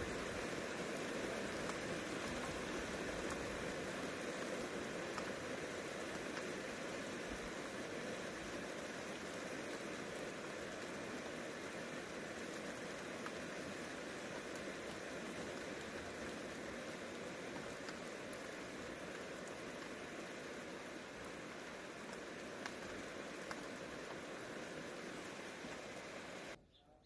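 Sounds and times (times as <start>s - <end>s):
steady rain falling: 0.0s - 26.6s.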